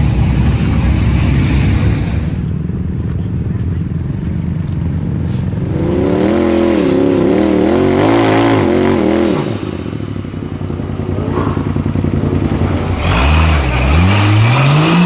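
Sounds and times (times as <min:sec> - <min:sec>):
buggy engine revving: 0:00.0 - 0:02.5, 0:04.2 - 0:15.0.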